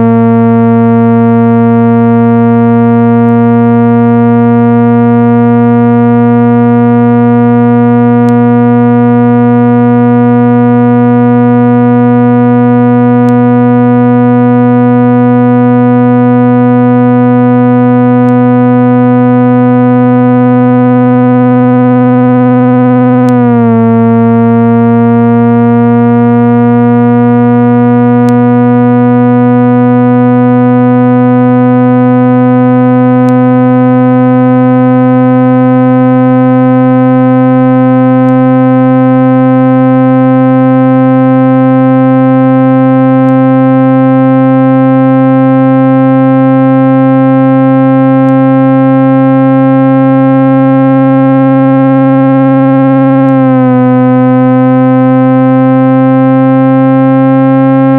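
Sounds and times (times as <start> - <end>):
low buzzing tone rising in pitch: 0.0 - 57.9.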